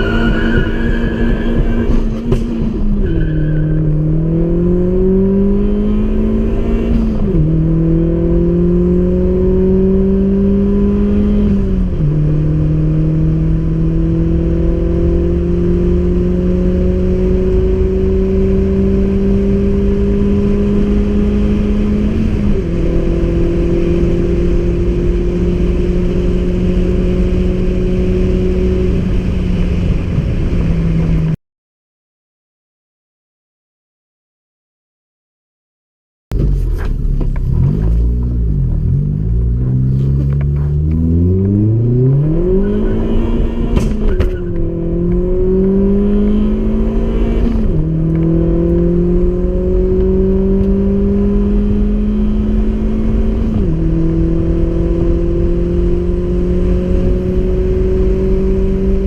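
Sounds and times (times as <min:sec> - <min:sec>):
car engine accelerating: 0:00.0 - 0:31.4, 0:36.3 - 0:59.0.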